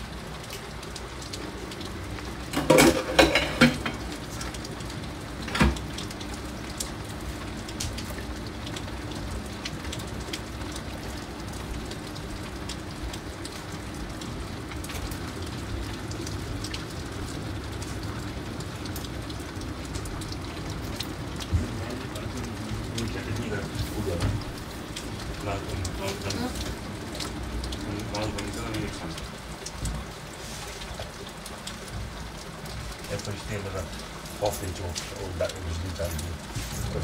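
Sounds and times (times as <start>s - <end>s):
heavy rain falling: 0.0s - 37.0s
raindrops ticking on window glass: 0.0s - 37.0s.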